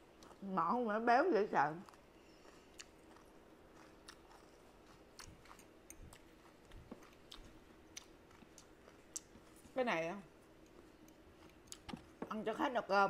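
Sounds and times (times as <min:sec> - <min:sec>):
faint close-up chewing: 0:00.1 - 0:00.4, 0:01.8 - 0:12.3.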